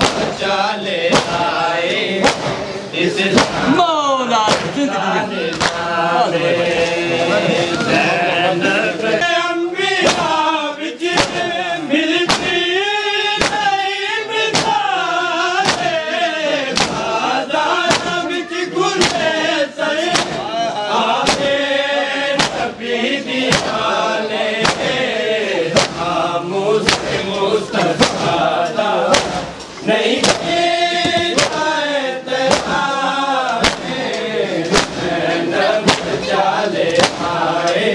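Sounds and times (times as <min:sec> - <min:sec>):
mourners chanting a lament: 0:00.0 - 0:37.9.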